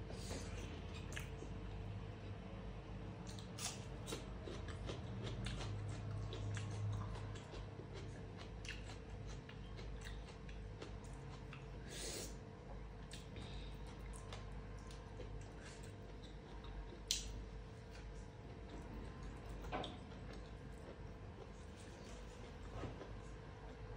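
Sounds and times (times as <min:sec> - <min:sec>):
faint steady hum: 0:00.0 - 0:23.9
wet chewing and mouth smacks: 0:00.6 - 0:01.5, 0:03.2 - 0:11.8, 0:13.0 - 0:23.4.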